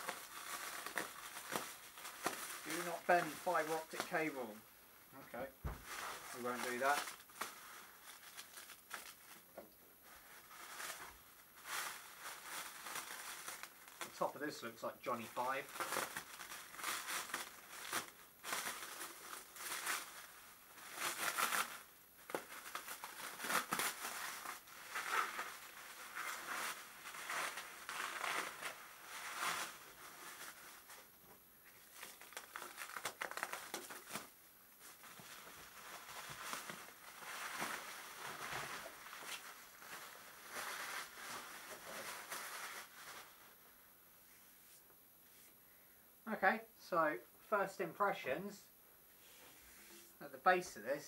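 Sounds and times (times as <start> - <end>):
plastic stretch wrap rustling: 0.0 - 4.6, 5.3 - 45.5.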